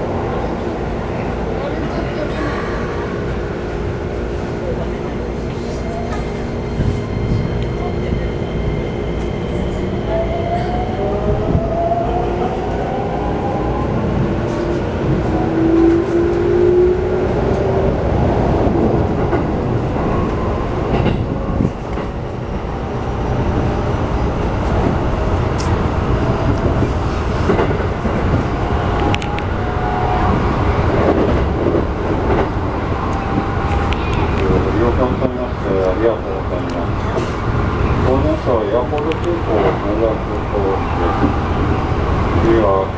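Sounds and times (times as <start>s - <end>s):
wheels rumbling on rail: 0.0s - 42.9s.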